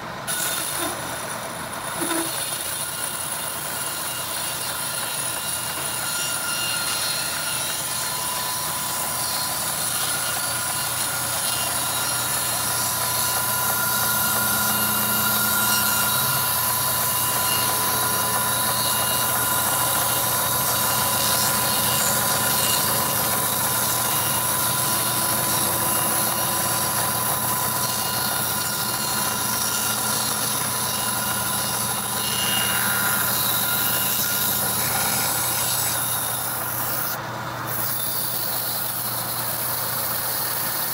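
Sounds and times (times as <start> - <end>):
band saw cutting log whining: 0.0 - 40.9.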